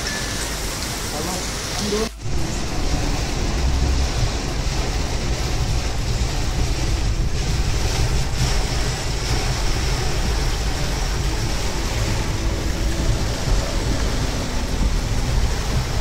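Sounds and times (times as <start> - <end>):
heavy rain on car: 0.0 - 16.0
wet tyre road noise: 0.0 - 16.0.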